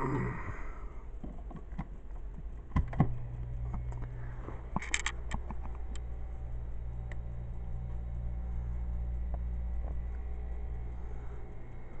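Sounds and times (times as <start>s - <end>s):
refrigerator compressor hum: 0.0s - 12.0s.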